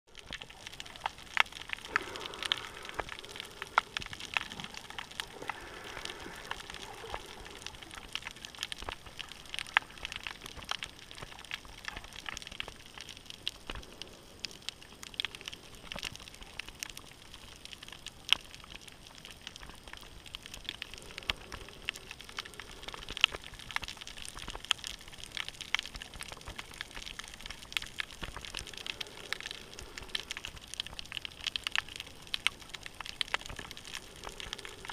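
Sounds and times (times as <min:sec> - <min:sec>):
coral reef crackling underwater: 0:00.1 - 0:34.9.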